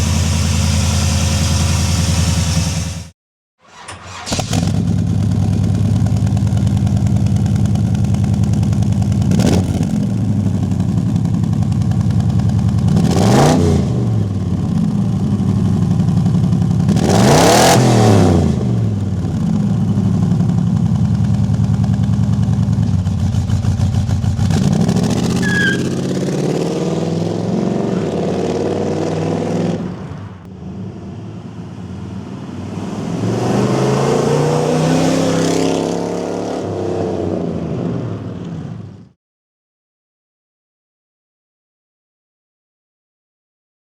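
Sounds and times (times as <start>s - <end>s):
engine idling and revving: 0.0s - 3.1s, 3.7s - 39.2s.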